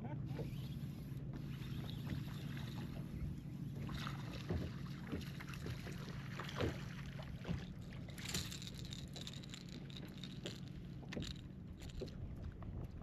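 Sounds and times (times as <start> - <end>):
steady low hum: 0.0 - 13.0
waves slapping against boat hull: 0.3 - 13.0.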